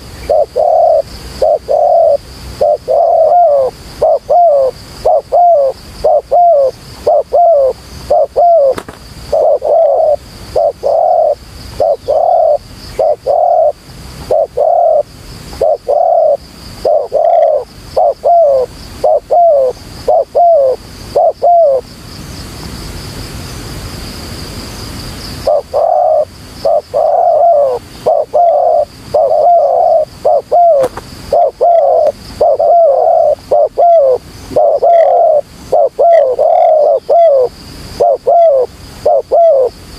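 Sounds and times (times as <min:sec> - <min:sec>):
dove cooing: 0:00.0 - 0:21.8, 0:25.4 - 0:39.8.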